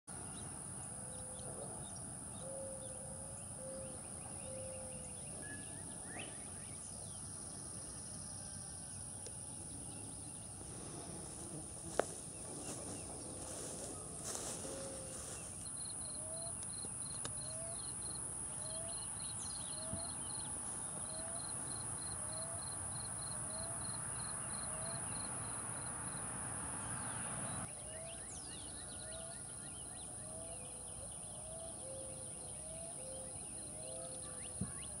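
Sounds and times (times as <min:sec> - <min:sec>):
insect drone: 0:00.2 - 0:35.0.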